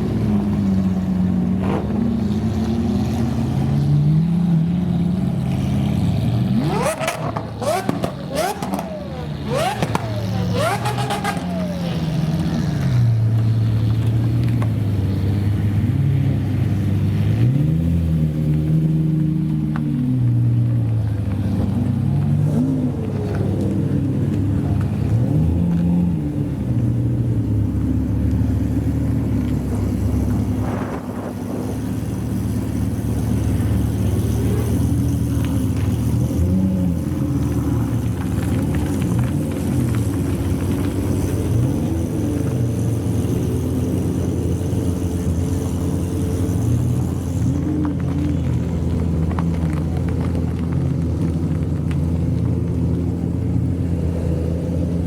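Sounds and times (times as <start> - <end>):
car engines revving low: 0.0 - 55.0.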